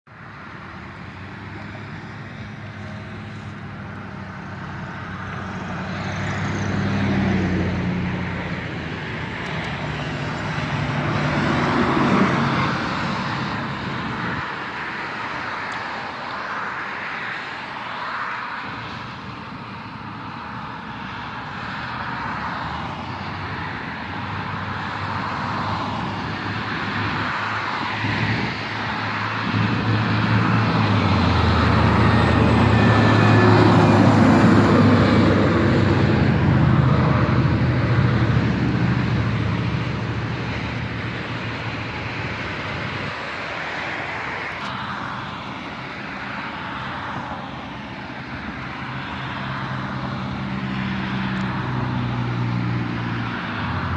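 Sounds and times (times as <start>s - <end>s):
road traffic: 0.0s - 53.9s
heavy truck passing: 0.2s - 17.7s, 18.6s - 53.9s.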